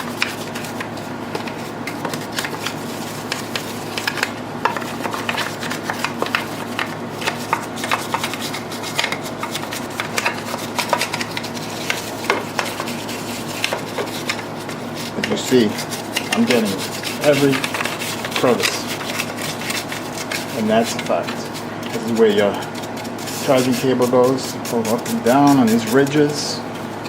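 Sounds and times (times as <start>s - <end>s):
brush scrubbing plastic case: 0.0s - 27.0s.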